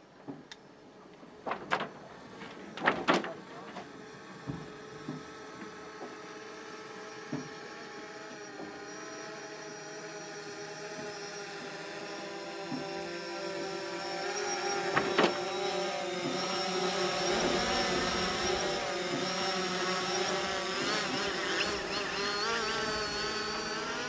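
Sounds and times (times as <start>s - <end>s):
drone propellers whining: 3.8s - 24.0s.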